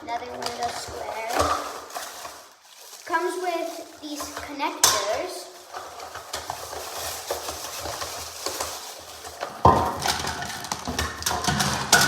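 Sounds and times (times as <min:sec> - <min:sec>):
plastic parts clattering together: 0:00.0 - 0:12.0.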